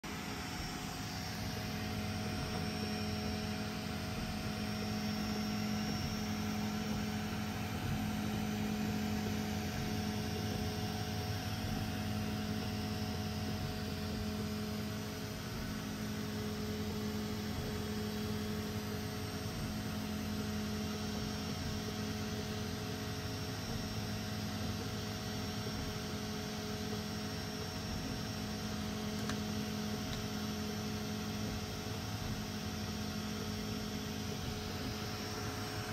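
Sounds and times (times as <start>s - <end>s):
printer fans and motors humming: 0.0s - 35.9s.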